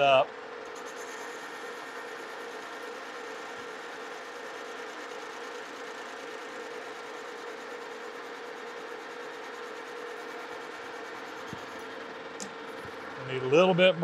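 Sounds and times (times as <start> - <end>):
metal lathe cutting: 0.0 - 14.0.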